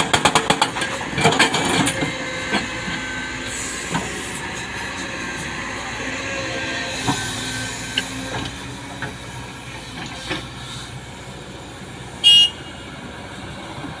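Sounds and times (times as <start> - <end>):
excavator running: 0.0 - 14.0.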